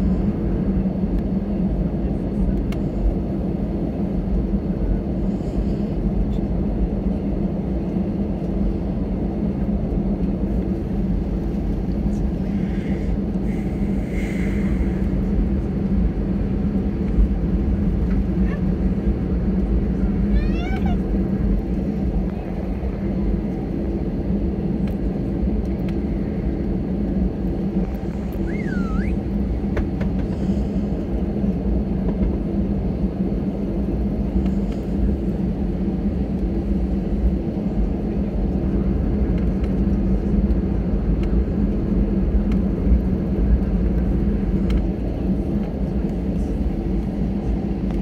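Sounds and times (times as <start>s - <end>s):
jet engines humming: 0.0s - 48.0s
low rumble of rolling aircraft: 0.0s - 48.0s.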